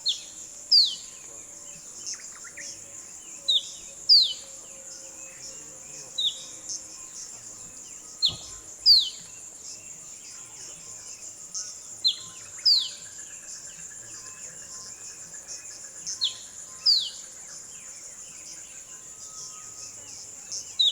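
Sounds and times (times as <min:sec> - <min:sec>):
crickets chirping: 0:00.0 - 0:20.9.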